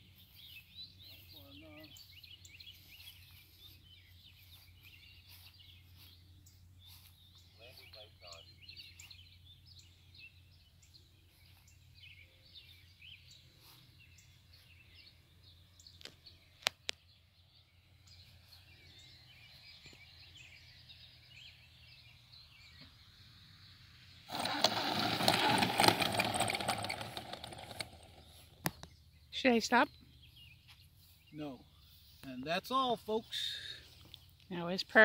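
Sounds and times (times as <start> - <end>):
birds chirping and calling: 0.0 - 35.0.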